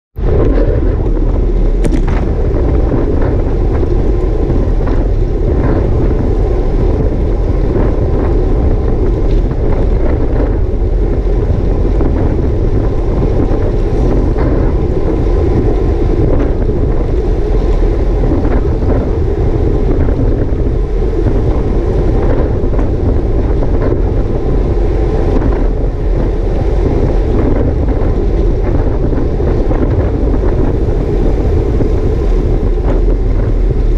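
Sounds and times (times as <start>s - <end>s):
wind rushing on microphone: 0.2s - 33.9s.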